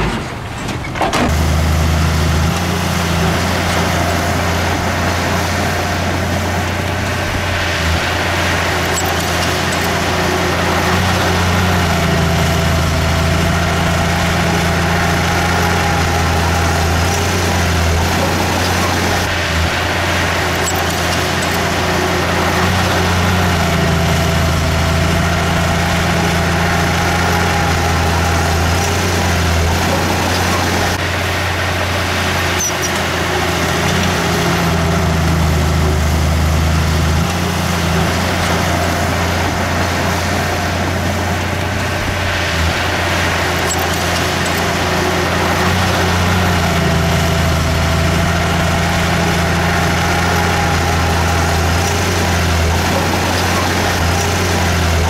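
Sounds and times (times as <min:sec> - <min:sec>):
heavy diesel engine droning: 0:00.0 - 0:55.0.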